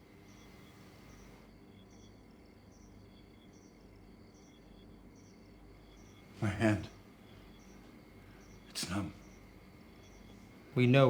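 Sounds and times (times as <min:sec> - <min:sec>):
faint crickets chirping: 0:00.0 - 0:11.0
low background hum: 0:00.0 - 0:11.0.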